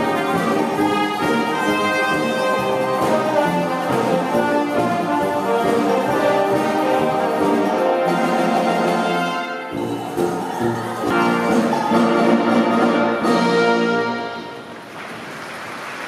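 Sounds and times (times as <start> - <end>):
wind band playing: 0.0 - 14.9.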